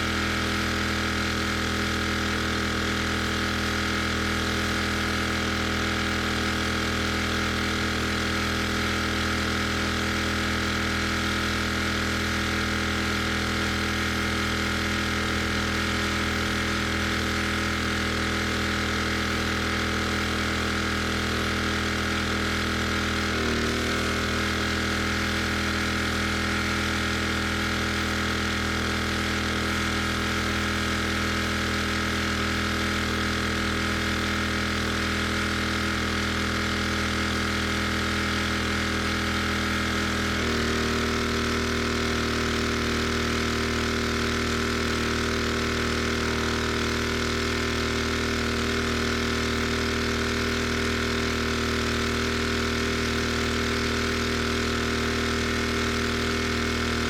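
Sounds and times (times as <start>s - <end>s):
pressure washer engine running: 0.0s - 57.0s.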